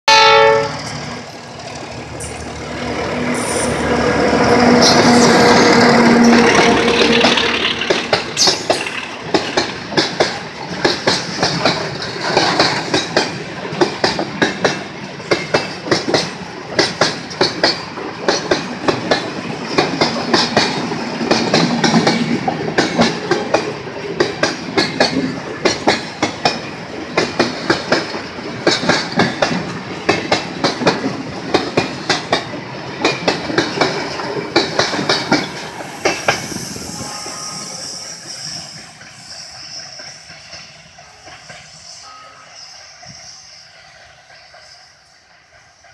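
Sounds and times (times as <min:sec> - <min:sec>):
train rumble: 0:00.1 - 0:45.9
train wheels clacking over rail joints: 0:00.8 - 0:41.9.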